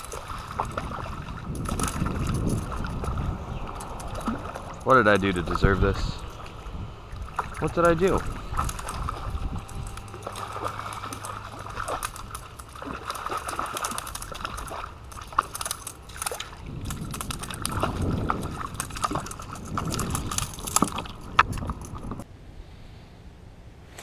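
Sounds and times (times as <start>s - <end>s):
sharp clicks and small splashes: 0.0s - 22.2s
water lapping on rocky shore: 0.0s - 22.2s.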